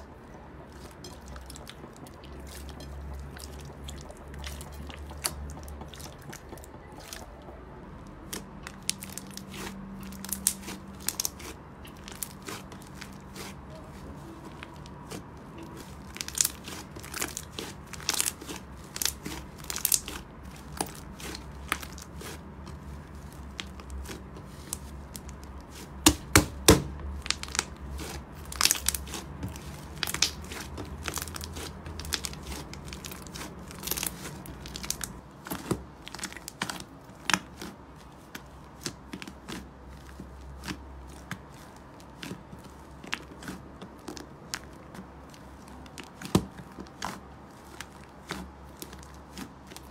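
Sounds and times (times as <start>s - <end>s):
slime crackling and popping: 0.2s - 49.9s.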